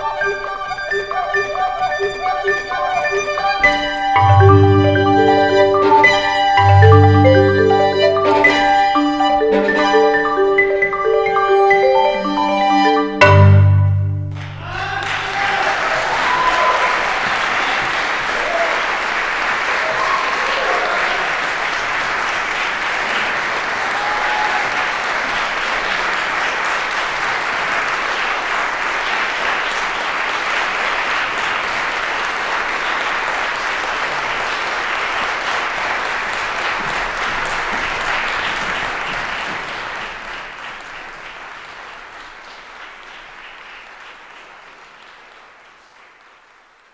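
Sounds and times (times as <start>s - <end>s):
audience applauding: 0.0s - 13.4s, 14.3s - 46.9s.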